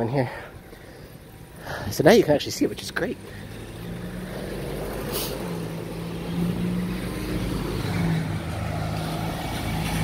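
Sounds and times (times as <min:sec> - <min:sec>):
car and truck engines running: 0:00.0 - 0:10.0
road noise: 0:00.0 - 0:10.0.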